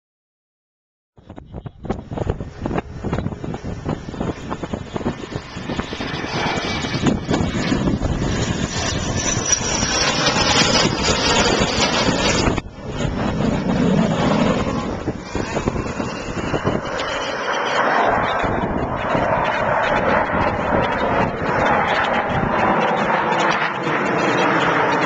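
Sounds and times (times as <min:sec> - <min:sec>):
aircraft engine passing low: 0:01.2 - 0:25.0
wind buffeting microphone: 0:01.2 - 0:25.0.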